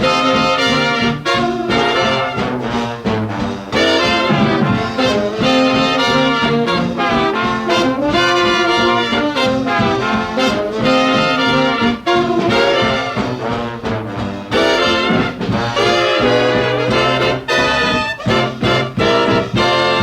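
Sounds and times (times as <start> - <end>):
swing big band playing: 0.0 - 20.0.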